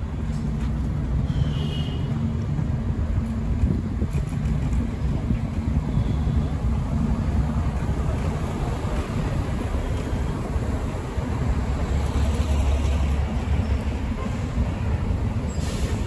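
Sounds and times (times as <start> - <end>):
cars idling and creeping past: 0.0 - 16.0.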